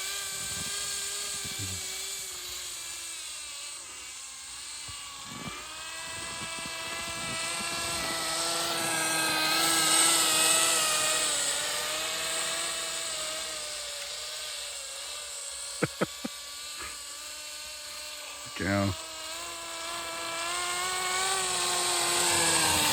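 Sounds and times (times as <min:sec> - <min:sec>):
small engine buzzing whine: 0:00.0 - 0:22.9.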